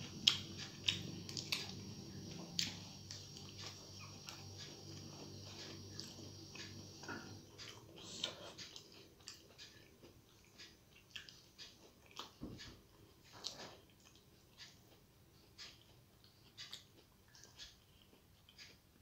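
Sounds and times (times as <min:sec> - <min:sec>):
person chewing with wet smacks: 0:00.0 - 0:19.0.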